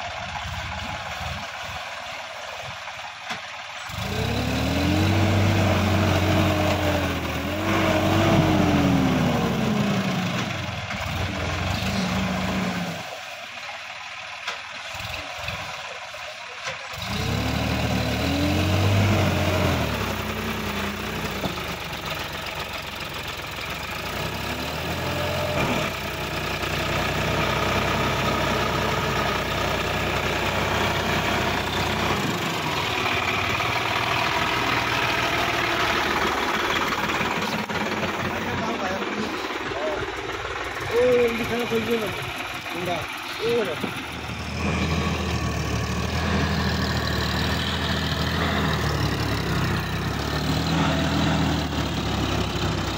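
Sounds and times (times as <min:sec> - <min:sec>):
tractor diesel engine revving: 0:00.0 - 0:52.9.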